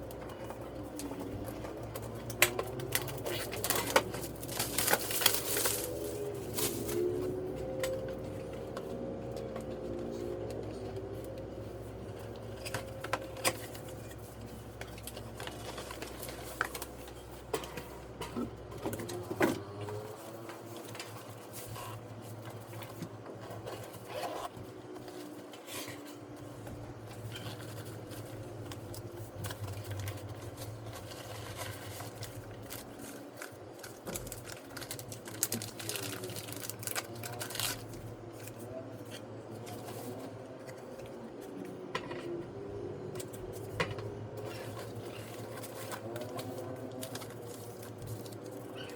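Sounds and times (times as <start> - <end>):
hands handling packaging: 0.0 - 48.9.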